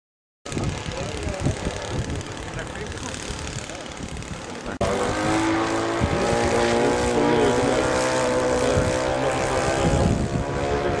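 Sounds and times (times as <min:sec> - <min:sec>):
model plane engine and propeller: 0:00.5 - 0:11.0.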